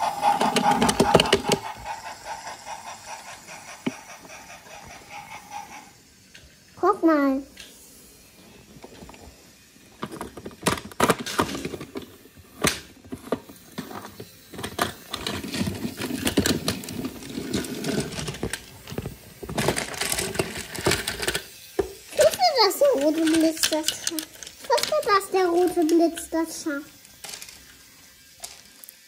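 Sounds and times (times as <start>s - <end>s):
wooden toy trains clattering: 0.0s - 5.6s, 10.0s - 27.8s, 28.4s - 28.9s.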